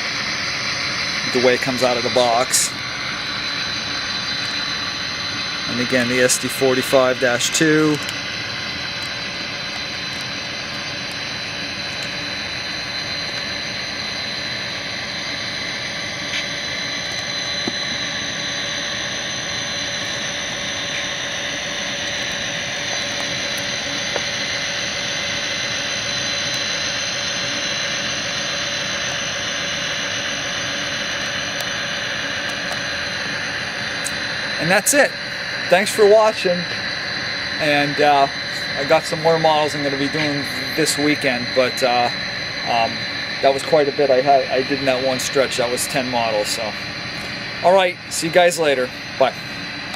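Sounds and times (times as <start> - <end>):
diesel locomotive engine rumble: 0.0 - 49.9
high turbo whine: 0.0 - 49.9.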